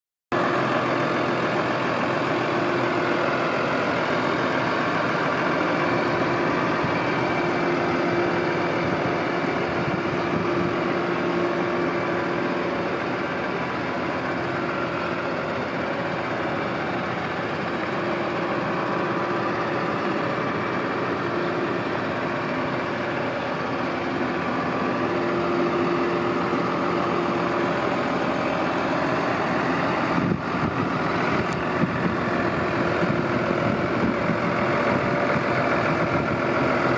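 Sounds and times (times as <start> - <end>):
tractor diesel engine idling: 0.3 - 36.9.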